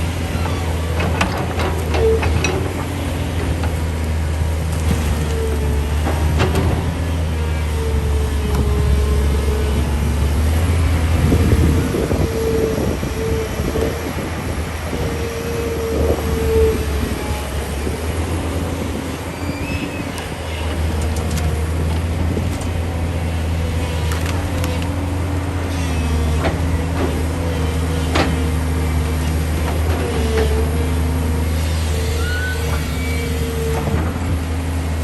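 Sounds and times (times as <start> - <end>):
crackling and creaking: 0.0 - 34.3
excavator diesel engine running: 0.0 - 35.0
hydraulic whine: 0.0 - 35.0.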